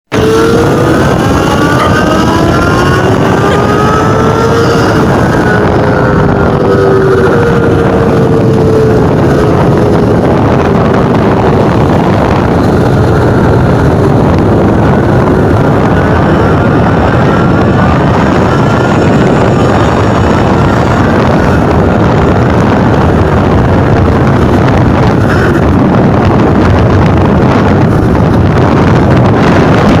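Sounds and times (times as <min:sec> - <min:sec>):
wind noise on microphone: 0:00.0 - 0:30.0
motorcycle engine running: 0:00.1 - 0:30.0.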